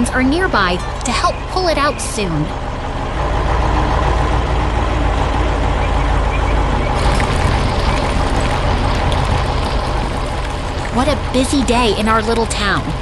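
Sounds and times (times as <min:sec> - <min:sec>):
heavy engine rumbling: 0:00.0 - 0:13.0.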